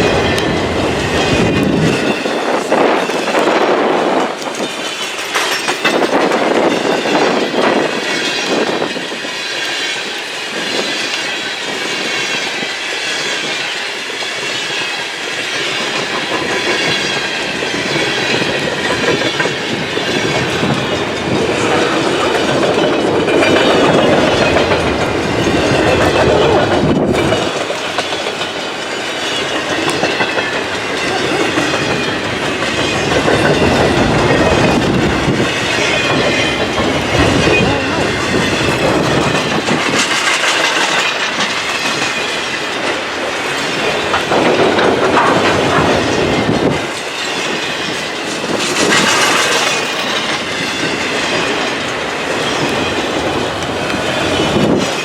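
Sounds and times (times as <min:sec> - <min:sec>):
train wheels clattering over rail joints: 0:00.0 - 0:55.0.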